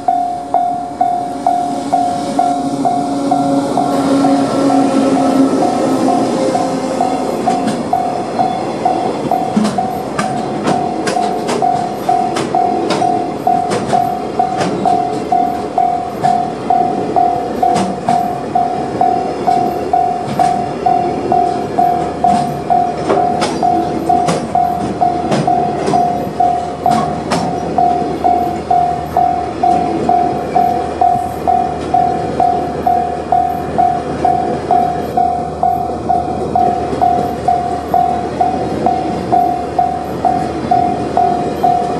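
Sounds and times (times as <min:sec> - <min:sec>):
freight train rolling by: 0:00.0 - 0:41.9
level-crossing alarm ringing: 0:00.0 - 0:41.9
wheels clacking over rail joints: 0:00.0 - 0:41.9.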